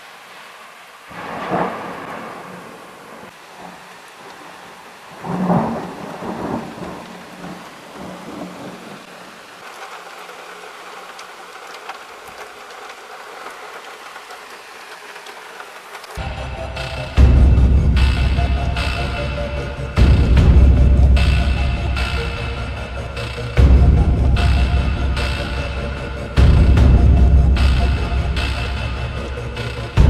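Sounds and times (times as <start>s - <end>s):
steady rain: 0.0s - 30.0s
thunder rumble: 1.1s - 30.0s.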